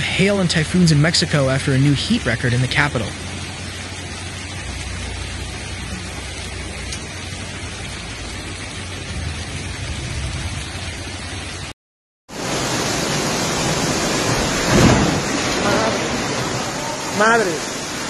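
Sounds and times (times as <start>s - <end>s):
rain hissing: 0.0s - 18.0s
running water: 0.0s - 18.0s.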